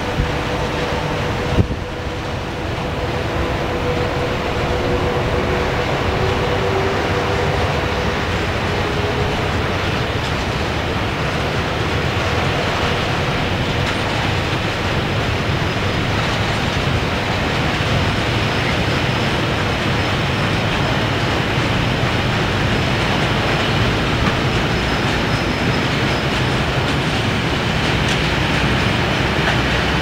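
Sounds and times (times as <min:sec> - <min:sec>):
freight train wheels rolling on rails: 0:00.0 - 0:30.0.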